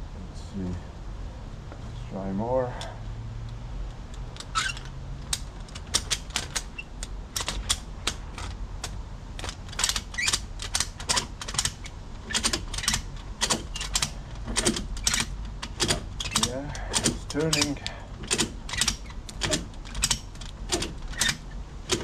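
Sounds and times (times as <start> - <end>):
ratchet clicking: 4.1 - 22.0.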